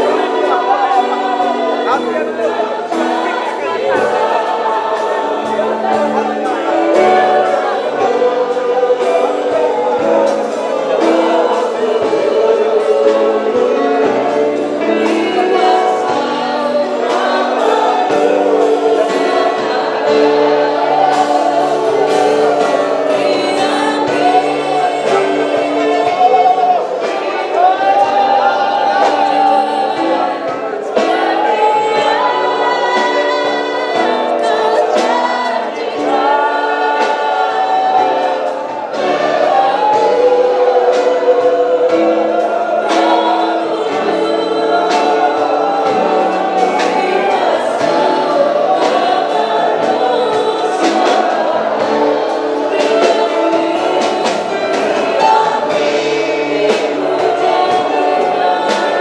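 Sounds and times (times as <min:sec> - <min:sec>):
band playing: 0:00.0 - 0:59.0
choir singing gospel song: 0:00.0 - 0:59.0
steady drum beat: 0:00.0 - 0:59.0.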